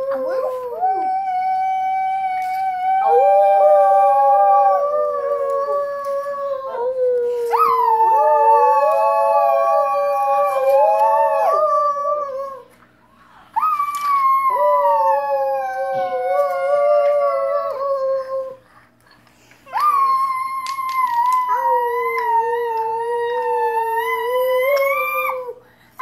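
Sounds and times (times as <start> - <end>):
girls howling like wolves: 0.0 - 12.7, 13.6 - 18.6, 19.7 - 25.6.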